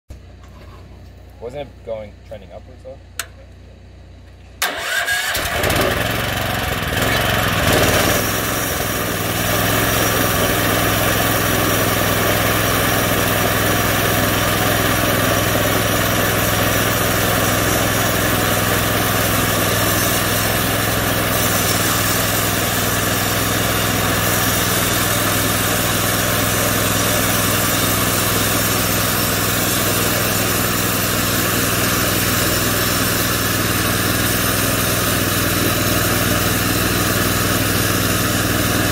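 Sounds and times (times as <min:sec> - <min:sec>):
small gasoline engine running: 0:04.6 - 0:38.9.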